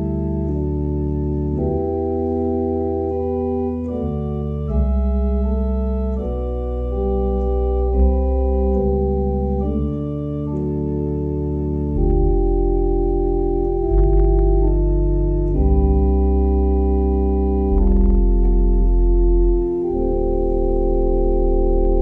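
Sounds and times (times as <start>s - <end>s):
church organ chords: 0.0s - 22.0s.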